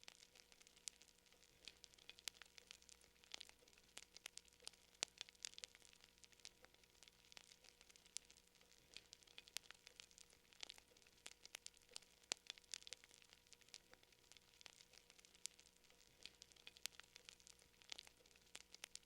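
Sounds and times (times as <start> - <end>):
soft steady hiss: 0.0 - 19.0
wood fire crackling: 0.0 - 19.0.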